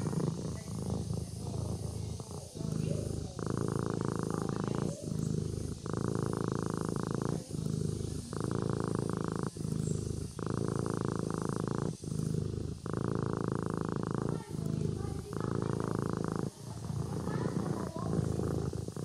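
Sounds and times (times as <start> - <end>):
kitten purring: 0.0 - 19.0.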